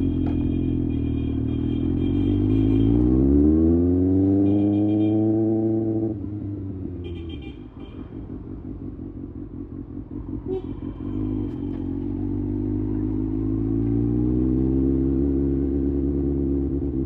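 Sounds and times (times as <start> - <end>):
motorcycle engine revving: 0.0 - 7.1, 8.1 - 17.0.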